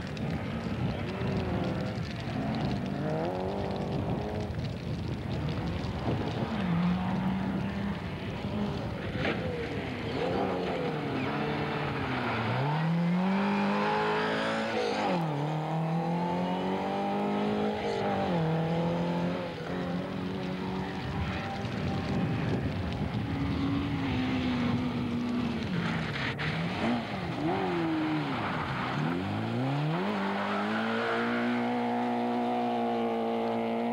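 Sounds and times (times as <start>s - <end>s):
rally car engine revving: 0.1s - 4.6s, 5.4s - 33.9s.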